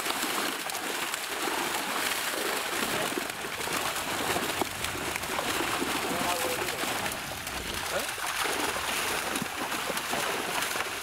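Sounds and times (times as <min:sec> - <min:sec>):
fish thrashing in a net: 0:00.0 - 0:11.0
water splashing and churning: 0:00.0 - 0:11.0.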